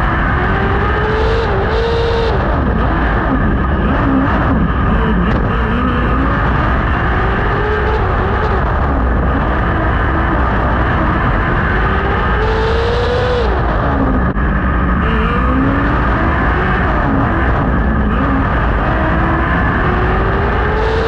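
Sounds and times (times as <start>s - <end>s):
racing car engine accelerating: 0.0s - 21.0s.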